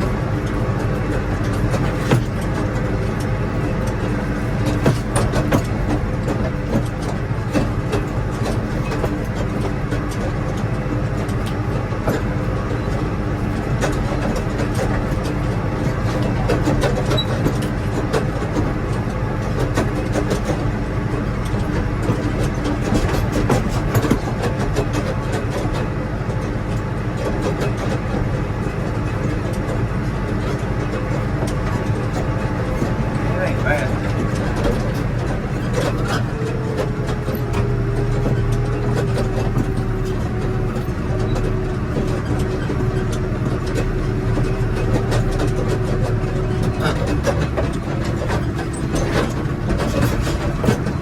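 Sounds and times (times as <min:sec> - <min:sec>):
rattles and knocks: 0:00.0 - 0:51.0
vehicle engine rumbling: 0:00.0 - 0:51.0.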